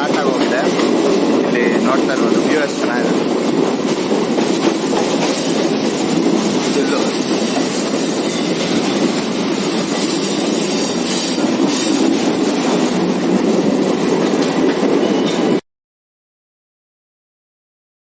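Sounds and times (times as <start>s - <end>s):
train wheels rumbling on track: 0.0s - 15.6s.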